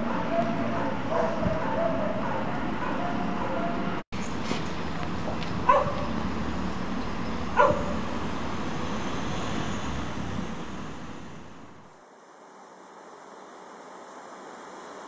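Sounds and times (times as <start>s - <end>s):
street noise: 0.0s - 12.2s.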